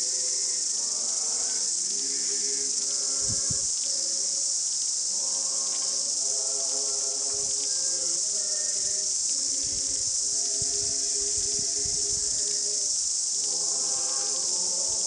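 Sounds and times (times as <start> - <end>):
choir singing held chords: 0.0 - 15.0
cicadas chorus: 0.0 - 15.0.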